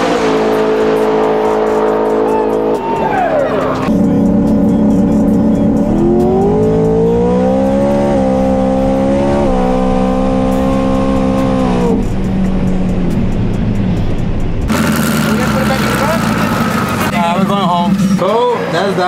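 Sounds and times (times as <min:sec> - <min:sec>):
truck engine at full throttle: 0:00.0 - 0:19.0.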